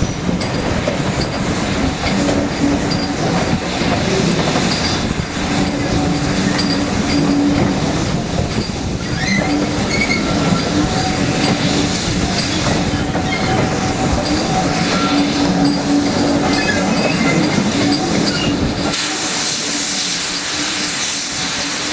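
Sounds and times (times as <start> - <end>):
train wheels rolling on rails: 0.0 - 21.9.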